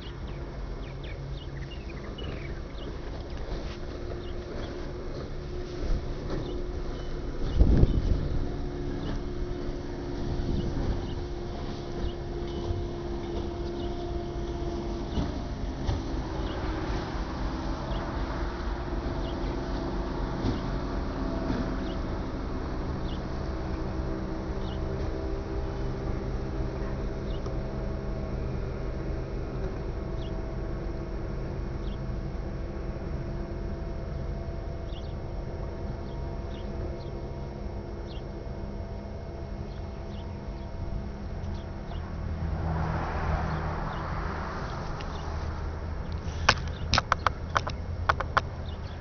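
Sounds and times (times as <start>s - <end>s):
wind rumbling on microphone: 0.0s - 33.8s, 39.6s - 49.0s
faint distant drone: 0.0s - 49.0s.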